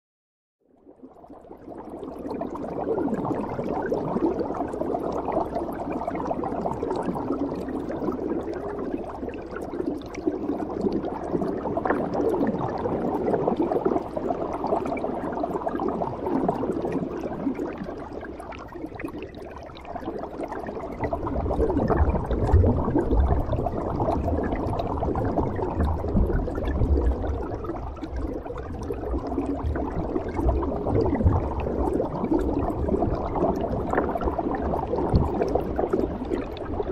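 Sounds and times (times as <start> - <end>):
underwater regulator bubbles: 1.2 - 36.9.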